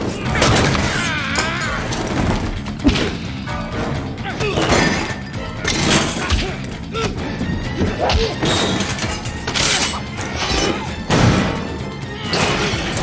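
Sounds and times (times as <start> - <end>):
action movie score: 0.0 - 13.0.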